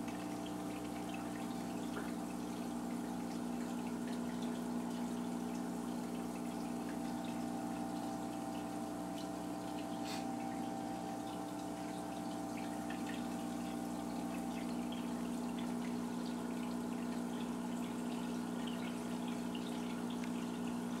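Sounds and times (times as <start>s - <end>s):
aquarium pump humming: 0.0s - 21.0s
water trickling and dripping: 0.0s - 21.0s.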